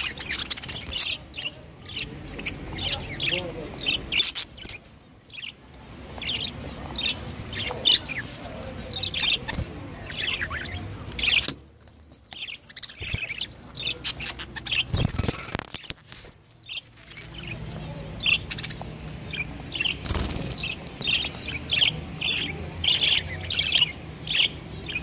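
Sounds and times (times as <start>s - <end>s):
budgerigars chirping: 0.0s - 11.6s, 12.3s - 15.9s, 16.6s - 25.0s.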